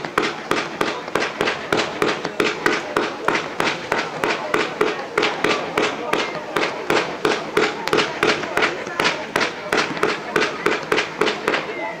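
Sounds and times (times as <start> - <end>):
fireworks bangs: 0.0 - 11.8.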